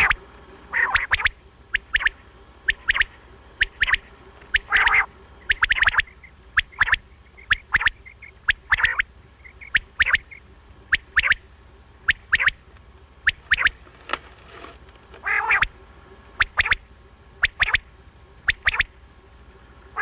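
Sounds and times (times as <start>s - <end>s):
quail calling: 0.0s - 14.2s, 15.1s - 19.0s.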